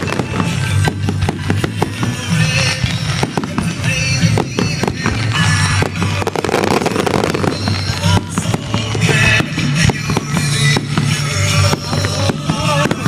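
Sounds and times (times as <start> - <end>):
fireworks bursting and popping: 0.0 - 13.0
loud music with steady bass: 0.0 - 13.0.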